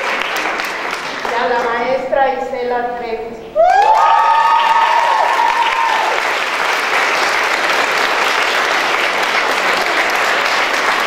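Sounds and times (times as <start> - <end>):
crowd applauding: 0.0 - 1.8, 3.6 - 11.0.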